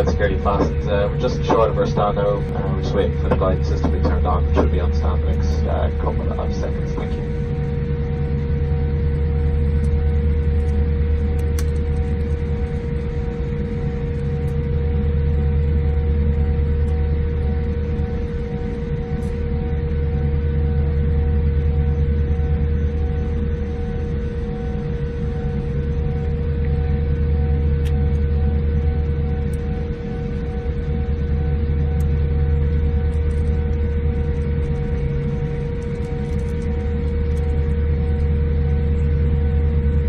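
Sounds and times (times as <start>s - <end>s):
jet engines idling: 0.0s - 40.0s.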